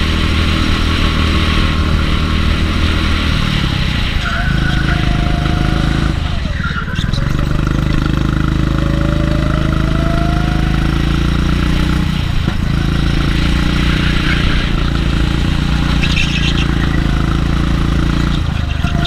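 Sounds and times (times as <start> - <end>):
kart engine at high revs: 0.0 - 19.0.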